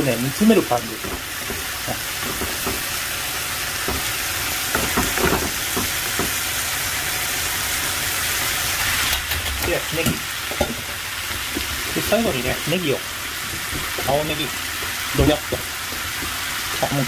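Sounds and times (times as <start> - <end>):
food sizzling in frying pan: 0.0 - 17.0
stirring knocks: 0.4 - 8.0, 9.3 - 17.0.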